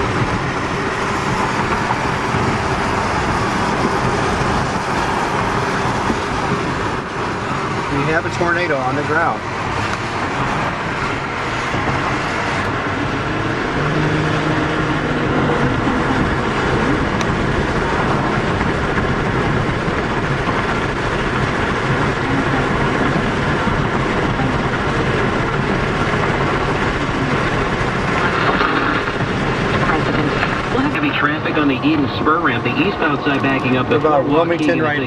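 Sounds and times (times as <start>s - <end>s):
road and wind noise in car: 0.0s - 35.0s.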